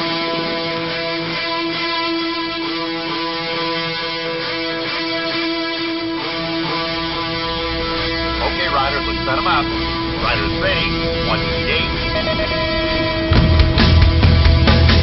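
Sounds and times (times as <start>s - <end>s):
guitar music with long held notes: 0.0s - 15.0s.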